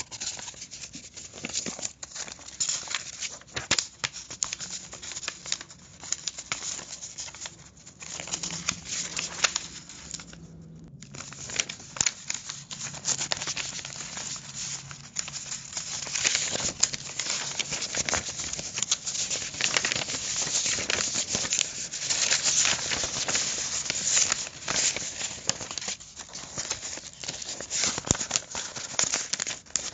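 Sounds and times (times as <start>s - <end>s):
paper crumpling: 0.0s - 29.9s.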